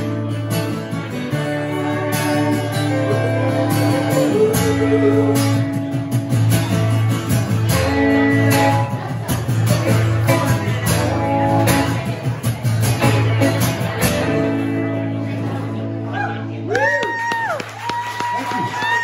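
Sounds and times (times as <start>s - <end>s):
acoustic guitar strumming: 0.0s - 16.4s
electric guitar: 0.0s - 17.6s.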